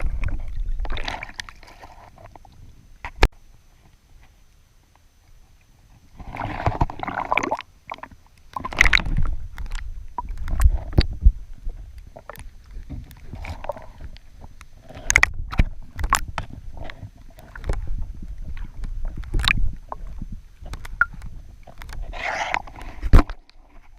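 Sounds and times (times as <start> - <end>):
water sloshing and gurgling: 0.0 - 3.3, 5.4 - 23.9.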